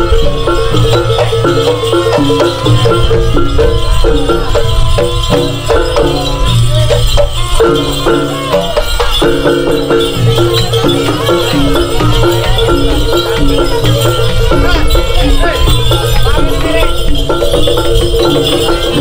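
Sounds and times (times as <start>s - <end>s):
jingling rattling percussion: 0.0s - 19.0s
repeating melodic figure: 0.0s - 19.0s
steady drumming: 0.0s - 19.0s.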